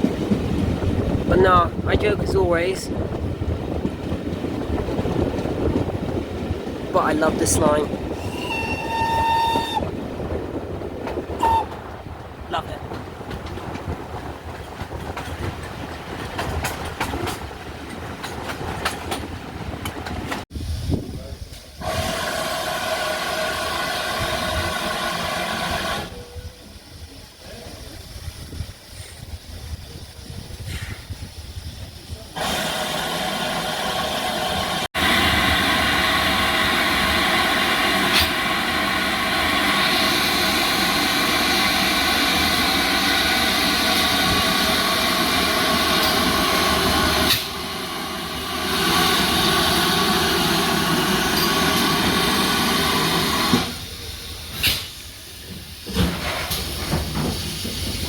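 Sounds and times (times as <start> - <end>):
steam locomotive hissing: 0.0 - 17.5, 20.0 - 58.0.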